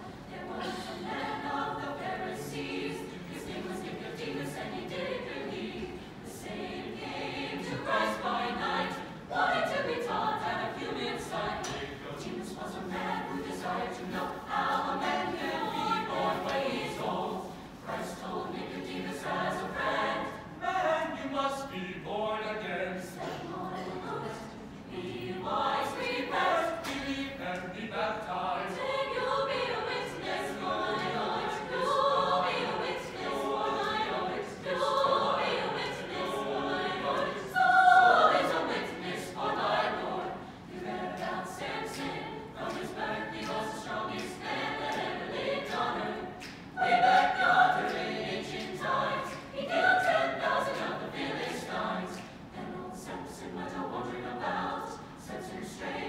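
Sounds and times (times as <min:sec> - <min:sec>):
choir singing unaccompanied: 0:00.0 - 0:56.0.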